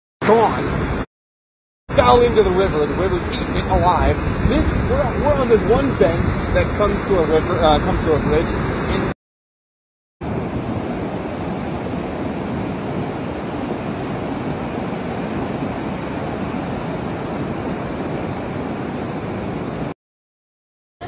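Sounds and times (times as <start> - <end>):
floodwater rushing: 1.9 - 9.1, 10.2 - 19.9.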